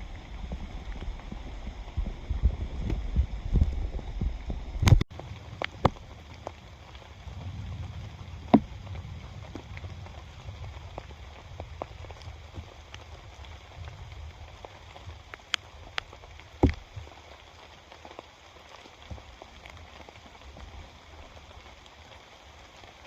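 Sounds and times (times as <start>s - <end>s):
rain on a tarp: 0.0s - 23.0s.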